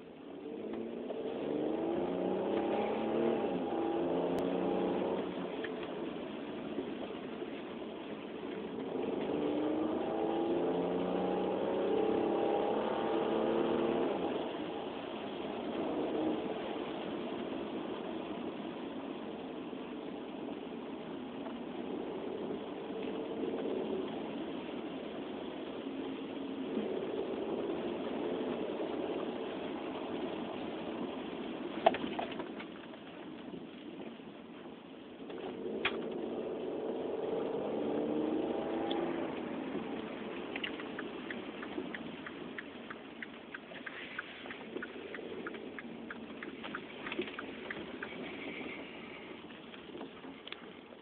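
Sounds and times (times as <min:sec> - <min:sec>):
car engine under throttle: 0:00.0 - 0:51.0.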